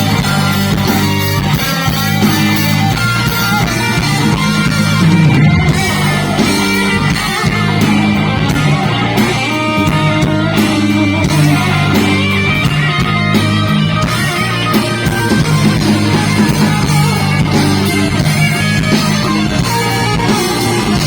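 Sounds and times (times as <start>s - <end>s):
electric guitar solo: 0.0s - 21.0s
live rock band playing: 0.0s - 21.0s.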